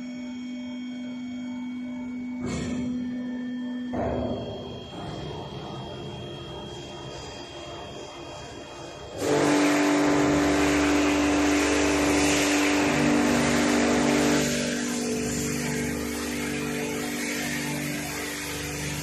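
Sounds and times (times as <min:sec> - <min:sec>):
pump motor hum: 0:00.0 - 0:19.0.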